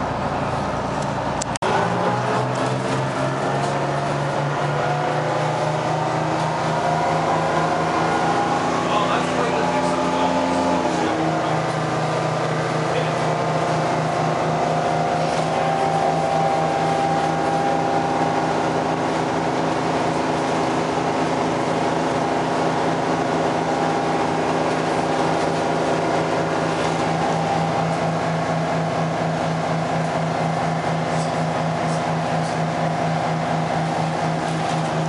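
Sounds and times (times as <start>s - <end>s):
diesel engine drone inside bus: 0.0s - 35.0s.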